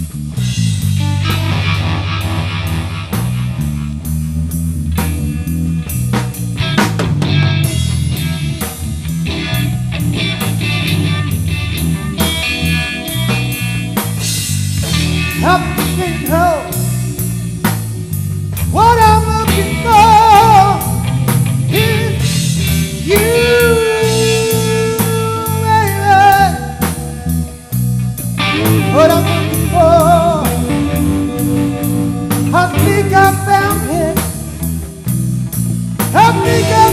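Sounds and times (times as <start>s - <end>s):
bass line: 0.0s - 36.9s
drum kit: 0.0s - 36.9s
electric guitar lead: 0.0s - 36.9s.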